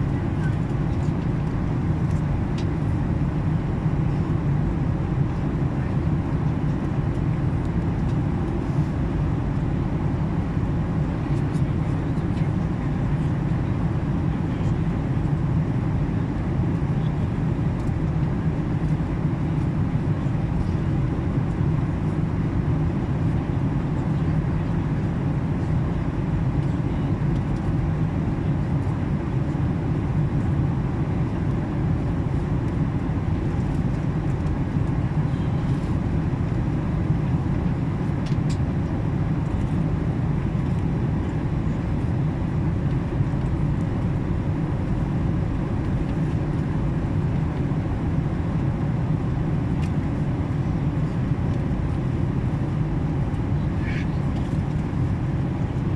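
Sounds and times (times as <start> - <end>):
airliner engines rumbling in cabin: 0.0 - 55.9.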